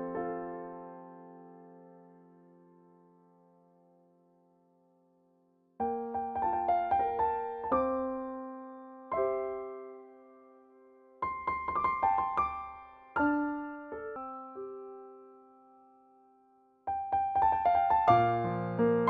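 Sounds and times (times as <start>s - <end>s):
slow electric piano melody: 0.0s - 4.8s, 5.8s - 19.0s.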